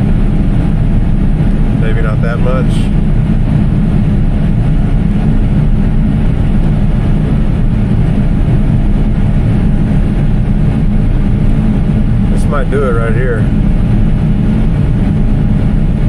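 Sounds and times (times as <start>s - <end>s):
machinery engine low rumble: 0.0s - 16.0s.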